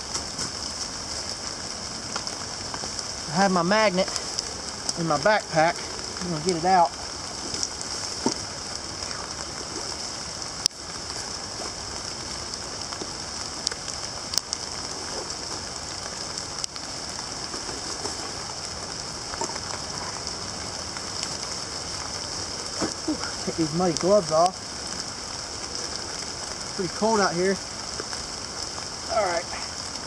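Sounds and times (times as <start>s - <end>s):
rain on leaf litter: 0.0s - 30.0s.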